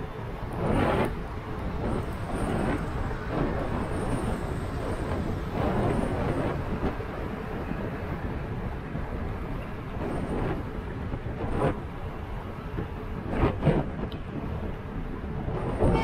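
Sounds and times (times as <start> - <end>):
car tyre and engine rumble: 0.0 - 16.0.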